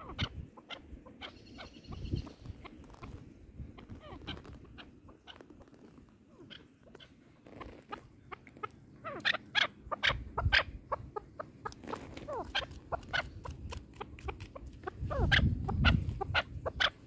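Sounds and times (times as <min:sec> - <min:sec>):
partridges chirping and clucking: 0:00.0 - 0:17.0.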